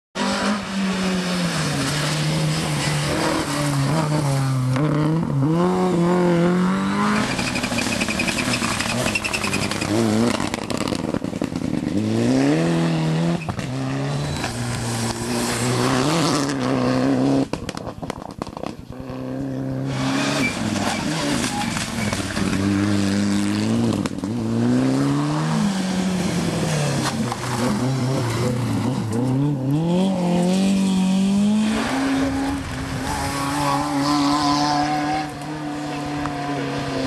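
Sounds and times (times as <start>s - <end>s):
rally cars racing past: 0.2s - 37.0s.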